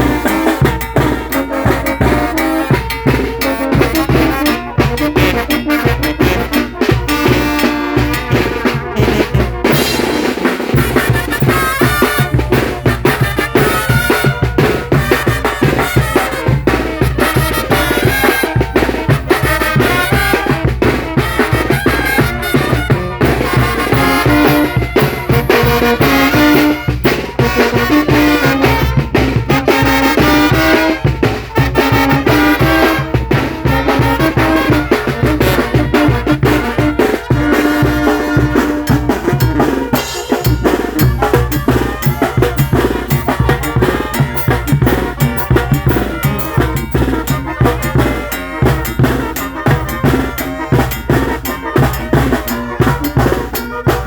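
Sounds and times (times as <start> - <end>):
brass band melody: 0.0 - 54.0
drums and cymbals: 0.0 - 54.0.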